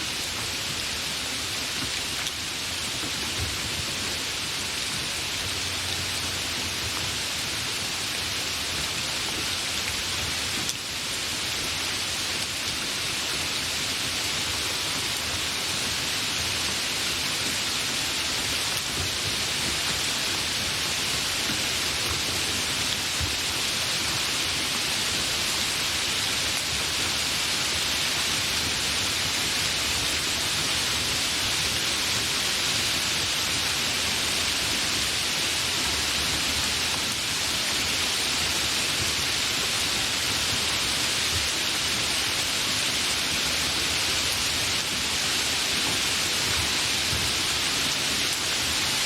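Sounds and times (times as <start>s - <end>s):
heavy rain falling: 0.0s - 49.0s.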